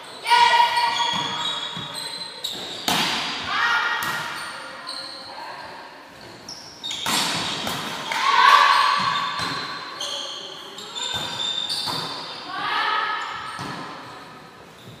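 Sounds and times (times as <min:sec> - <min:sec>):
shoes squeaking on court floor: 0:00.0 - 0:03.0, 0:04.0 - 0:15.0.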